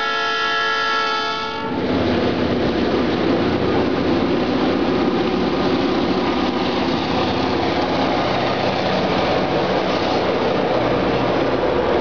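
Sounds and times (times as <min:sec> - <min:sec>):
diesel locomotive engines running: 0:00.0 - 0:12.0
train wheels rumbling on rails: 0:00.9 - 0:12.0.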